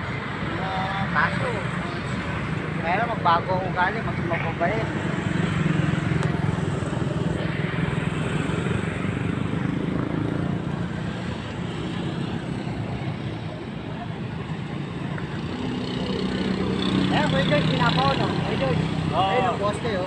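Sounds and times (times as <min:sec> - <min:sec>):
road and traffic noise: 0:00.0 - 0:20.0.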